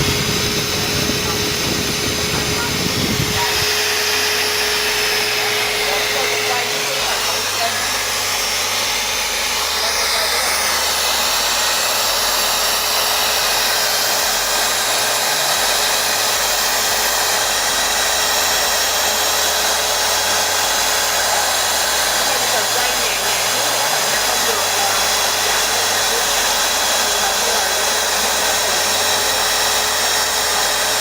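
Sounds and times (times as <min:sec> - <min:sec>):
drill motor whirring: 0:00.0 - 0:31.0.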